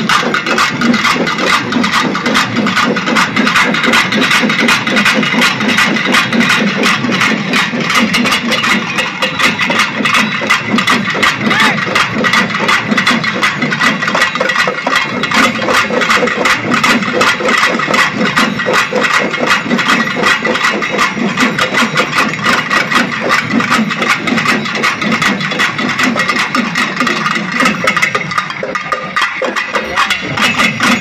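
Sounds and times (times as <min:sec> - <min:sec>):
ensemble of drums playing fast: 0:00.0 - 0:31.0.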